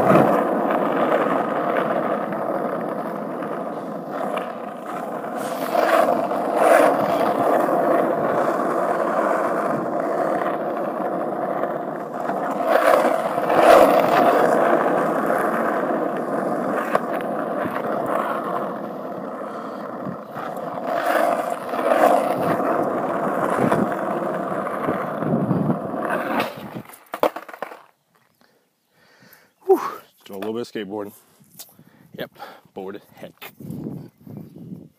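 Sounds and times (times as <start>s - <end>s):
skateboard wheels on asphalt: 0.0s - 31.9s, 32.8s - 34.9s.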